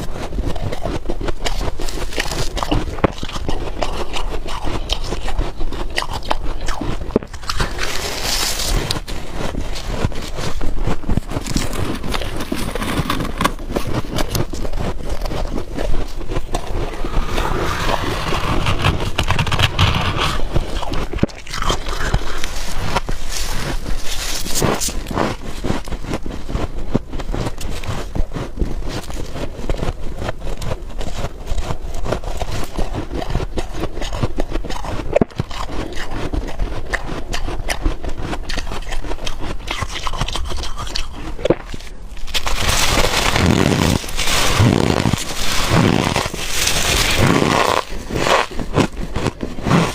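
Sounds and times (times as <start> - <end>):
frost scraping and crunching: 0.0 - 49.9.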